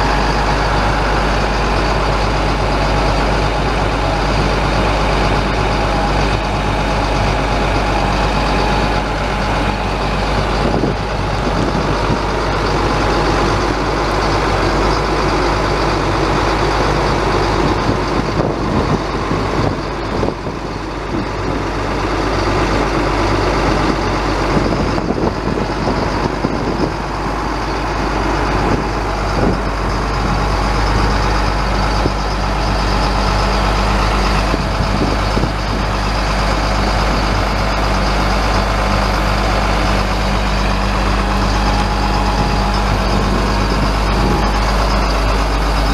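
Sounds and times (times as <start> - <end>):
diesel truck engine running: 0.0 - 45.9
thin steady whine: 0.0 - 45.9.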